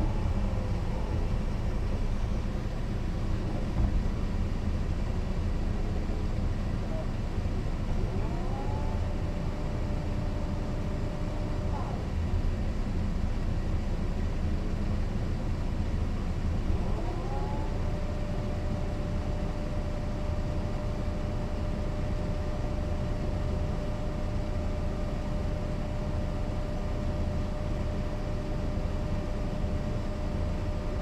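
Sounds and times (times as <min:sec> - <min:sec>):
bus engine low rumble: 0:00.0 - 0:31.0.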